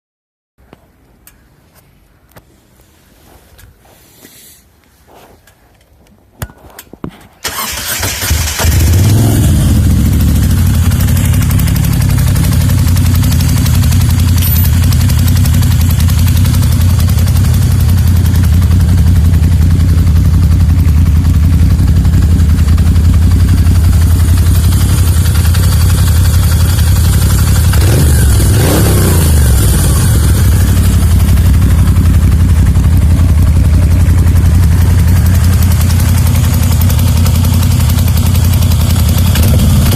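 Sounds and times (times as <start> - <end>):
engine idling: 7.4 - 39.9
engine ticking: 7.4 - 39.9
motorcycle engine starting: 7.4 - 39.9.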